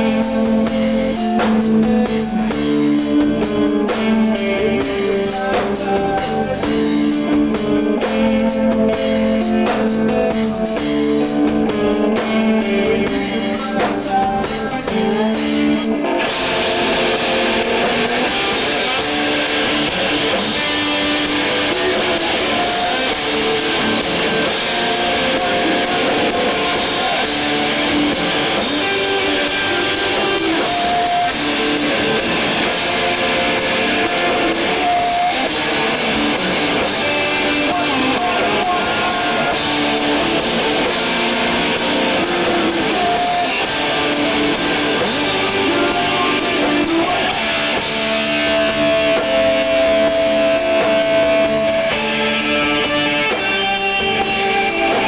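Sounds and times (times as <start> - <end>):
electric guitar melody: 0.0 - 55.0
light drums: 0.0 - 55.0
loud rock band: 0.0 - 55.0.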